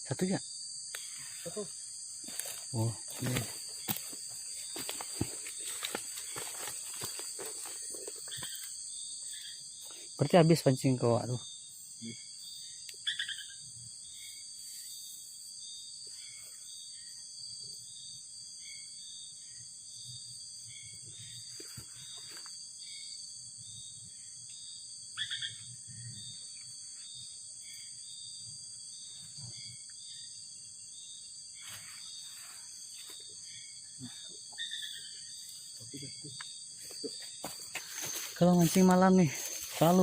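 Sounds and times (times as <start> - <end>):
crickets droning: 0.0 - 40.0
insect chirping in a regular beat: 0.0 - 40.0.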